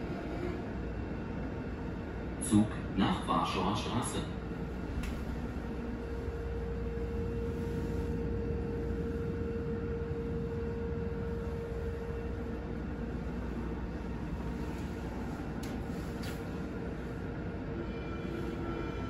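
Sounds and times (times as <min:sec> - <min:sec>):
steady hum: 0:00.0 - 0:19.0
train low rumble: 0:00.0 - 0:19.0.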